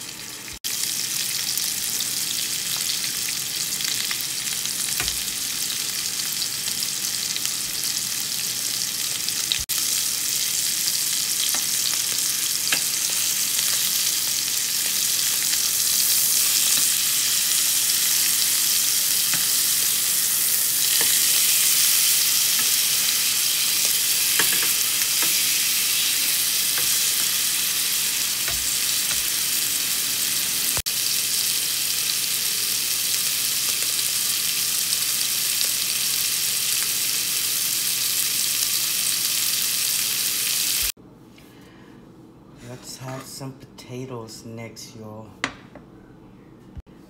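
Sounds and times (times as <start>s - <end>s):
steaks sizzling in a pan: 0.2s - 40.9s.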